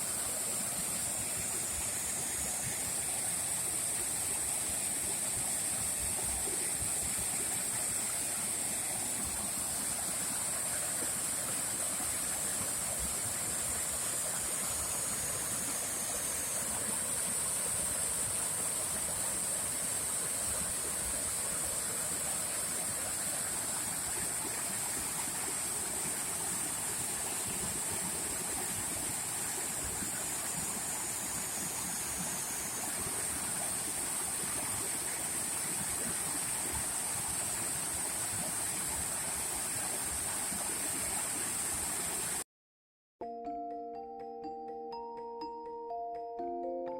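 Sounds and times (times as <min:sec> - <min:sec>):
waterfall rushing and splashing: 0:00.0 - 0:42.4.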